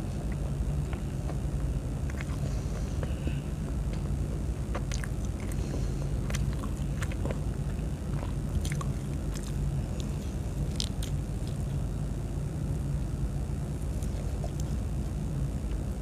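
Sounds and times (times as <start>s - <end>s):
wet mouth sounds: 0.0s - 11.7s, 13.9s - 15.2s
person chewing food: 0.0s - 11.9s, 13.8s - 16.0s
steady low hum: 0.0s - 16.0s.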